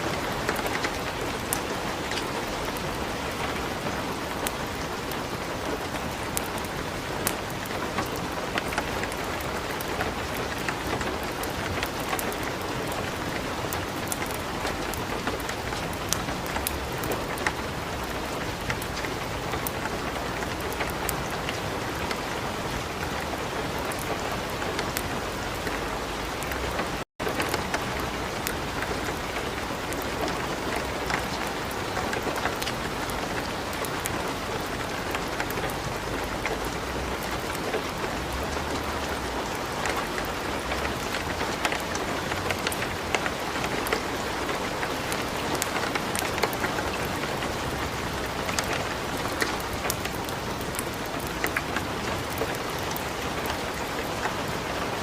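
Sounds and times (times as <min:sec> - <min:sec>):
light rain falling: 0:00.0 - 0:55.0
wood fire crackling: 0:00.1 - 0:54.4.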